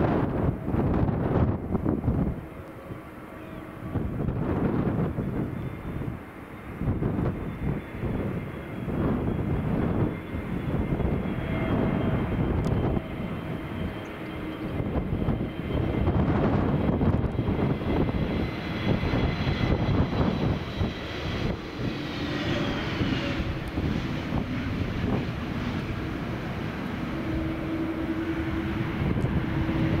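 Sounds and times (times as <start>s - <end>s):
low rumble: 0.0s - 6.2s, 6.8s - 30.0s
jet engines whining: 0.0s - 30.0s.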